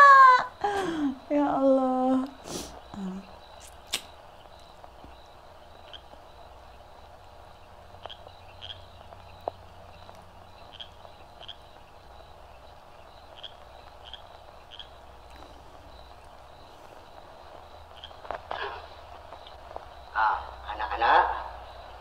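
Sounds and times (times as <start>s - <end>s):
low hiss: 0.0s - 22.0s.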